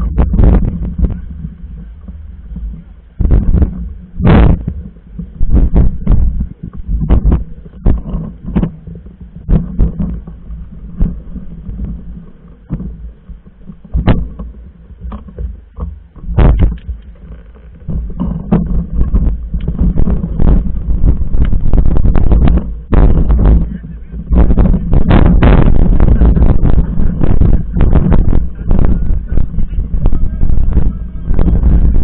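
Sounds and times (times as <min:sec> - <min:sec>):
bike rumbling over rough trail: 0:00.0 - 0:32.0
knocks and rattles from bumps: 0:00.2 - 0:28.9.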